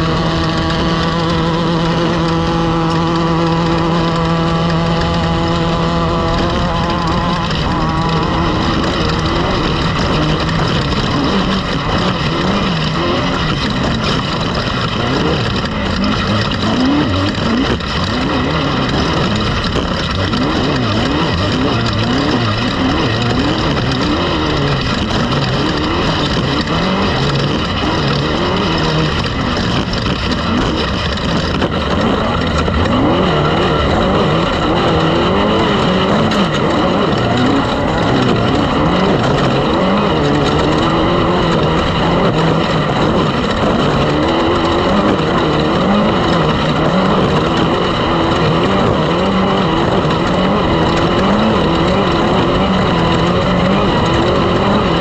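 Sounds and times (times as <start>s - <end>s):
loud engine revving: 0.0s - 55.0s.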